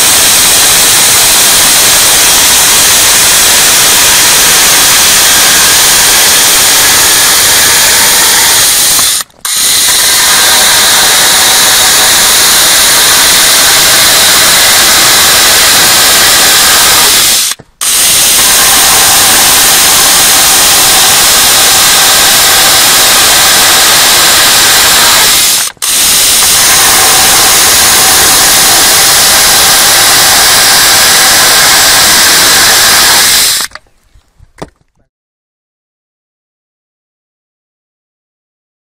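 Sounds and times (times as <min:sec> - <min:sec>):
electric chainsaw cutting wood: 0:00.0 - 0:33.8.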